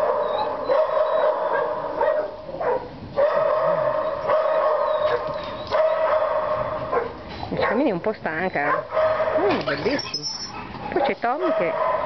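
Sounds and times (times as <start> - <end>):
many dogs barking and yelping: 0.0 - 12.0.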